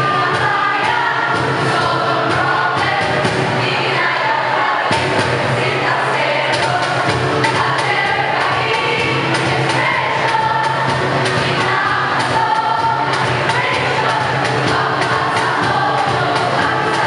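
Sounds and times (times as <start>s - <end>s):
group singing in chorus: 0.0s - 17.0s
music with steady beat: 0.0s - 17.0s.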